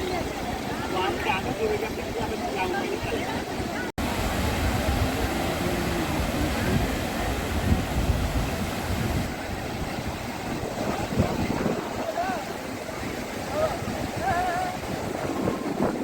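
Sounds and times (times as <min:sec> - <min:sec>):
wind and water rushing: 0:00.0 - 0:16.0.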